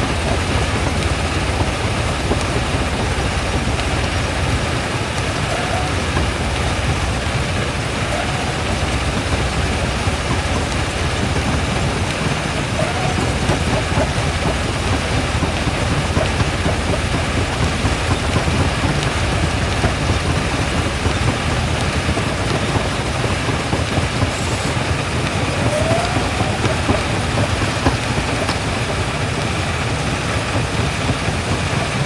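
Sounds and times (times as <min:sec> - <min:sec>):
jaw crusher rumbling: 0:00.0 - 0:32.0.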